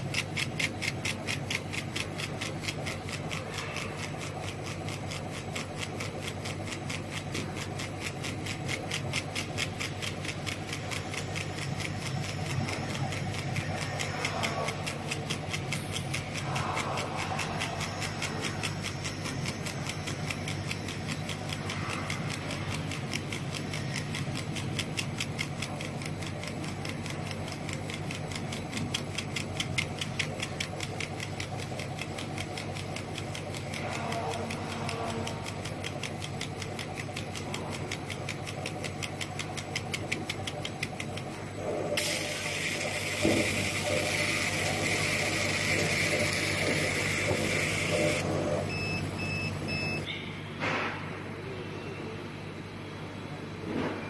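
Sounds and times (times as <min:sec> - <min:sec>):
fast even ticking: 0:00.0 - 0:50.0
laser cutter humming: 0:00.0 - 0:50.5.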